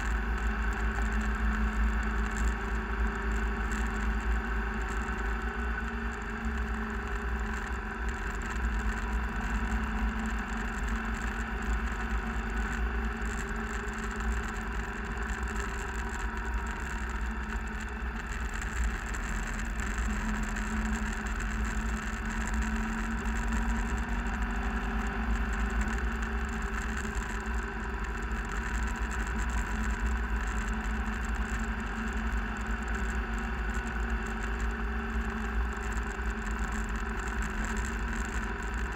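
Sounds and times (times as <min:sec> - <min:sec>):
vehicle engine hum: 0:00.0 - 0:38.9.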